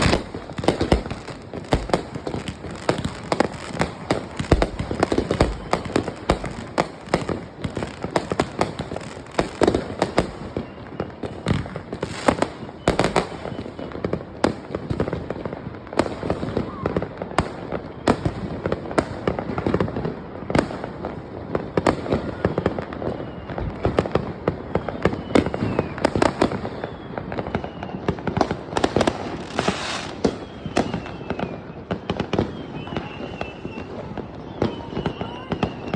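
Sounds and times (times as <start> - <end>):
fireworks and firecrackers banging: 0.0 - 35.9.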